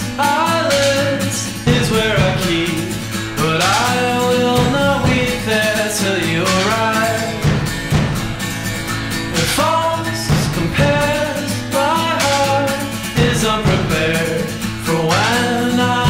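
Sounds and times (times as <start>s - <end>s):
song with guitar: 0.0s - 16.0s.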